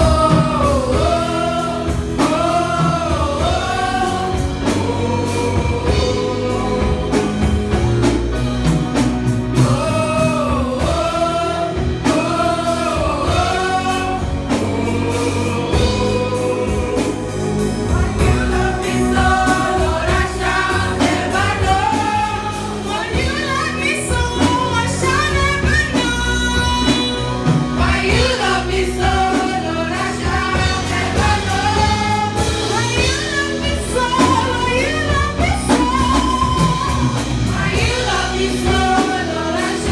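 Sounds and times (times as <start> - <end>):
gospel group singing: 0.0 - 39.9
instrumental backing with beat: 0.0 - 39.9.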